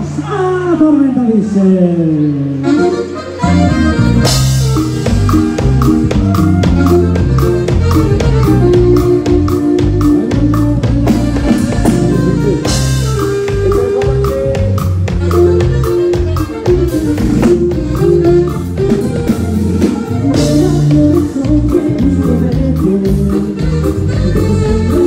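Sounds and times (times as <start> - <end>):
live dance band playing: 2.3 - 25.0.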